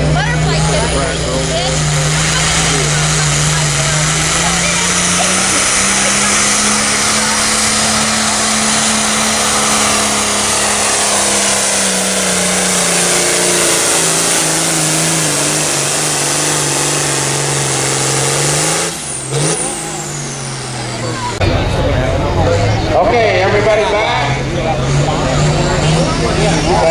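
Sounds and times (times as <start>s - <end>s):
engine rev blip: 0.0s - 26.9s
tractor engine roaring: 0.0s - 26.9s.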